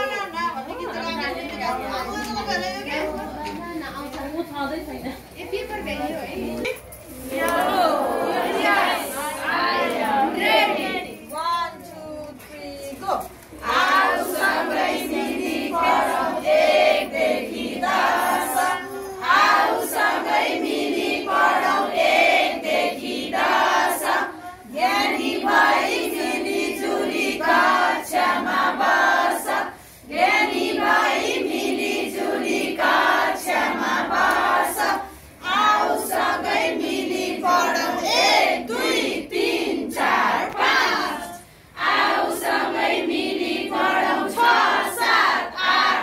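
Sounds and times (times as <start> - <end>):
women singing together: 4.5 - 46.0.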